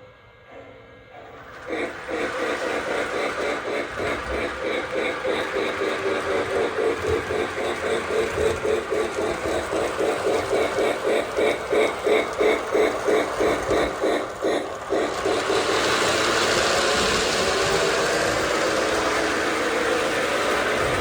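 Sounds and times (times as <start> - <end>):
toy locomotive steam chuffing: 0.6 - 21.0
steady rushing hiss: 1.4 - 21.0.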